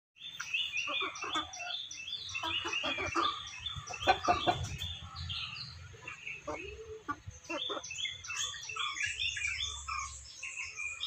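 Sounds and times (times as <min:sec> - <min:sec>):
chickens clucking: 0:00.2 - 0:11.0.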